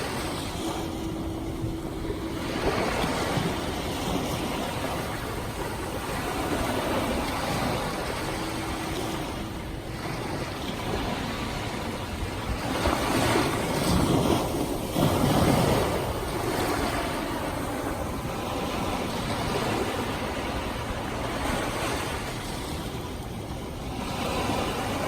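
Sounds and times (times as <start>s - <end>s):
ocean waves on beach: 0.0s - 25.0s.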